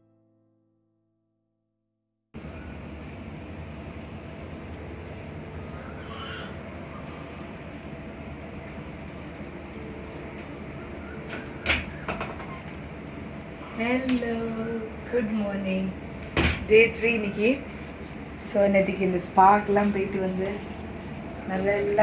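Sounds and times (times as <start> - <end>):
birds chirping: 2.4 - 22.0
steady low hum: 2.4 - 22.0.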